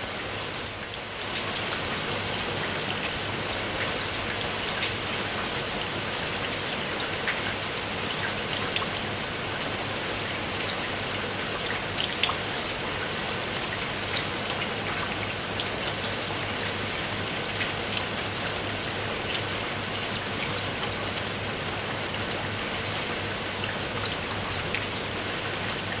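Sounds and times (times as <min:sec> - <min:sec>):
heavy rain falling: 0:00.0 - 0:26.0
raindrops ticking close by: 0:00.2 - 0:26.0.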